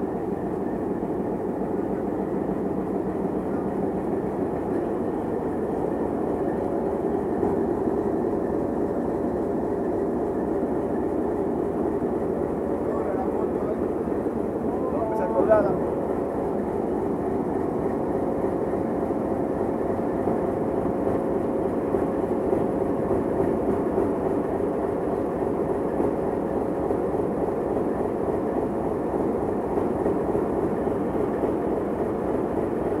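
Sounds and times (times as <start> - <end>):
diesel locomotive engine idling: 0.0 - 33.0.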